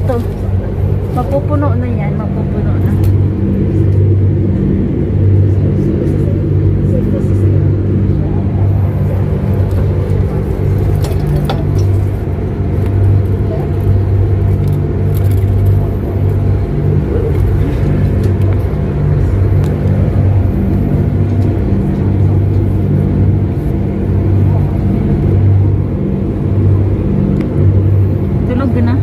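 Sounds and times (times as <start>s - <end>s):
ferry engine droning: 0.0s - 29.0s.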